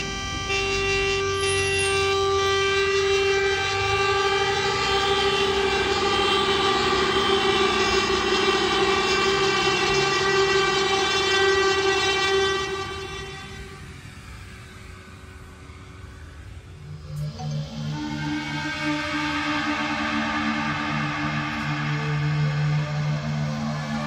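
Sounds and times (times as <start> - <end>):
steady horn-like tone: 0.0 - 24.0.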